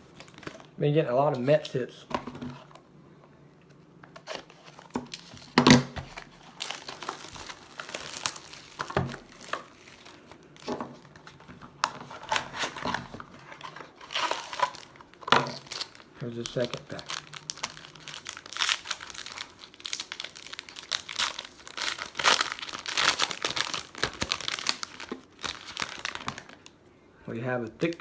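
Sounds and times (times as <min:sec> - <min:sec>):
card pack wrapper tearing and crinkling: 0:04.2 - 0:26.7.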